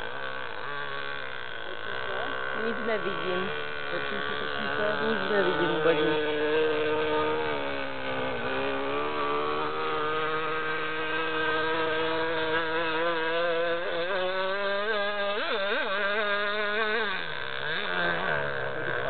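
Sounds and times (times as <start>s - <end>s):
model boat engine buzzing: 0.0s - 19.0s.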